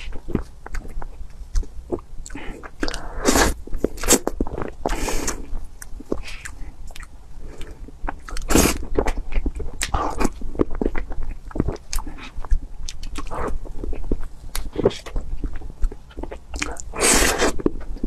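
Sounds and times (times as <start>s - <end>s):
person chewing and smacking: 0.0s - 18.0s.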